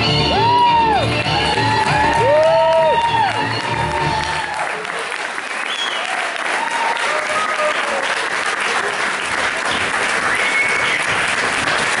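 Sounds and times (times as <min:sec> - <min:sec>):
audience applauding: 0:00.3 - 0:12.0.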